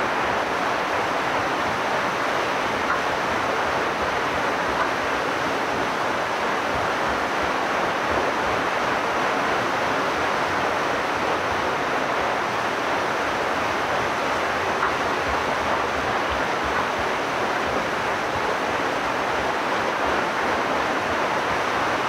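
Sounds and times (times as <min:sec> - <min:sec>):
water rushing at a mill wheel: 0:00.0 - 0:22.0.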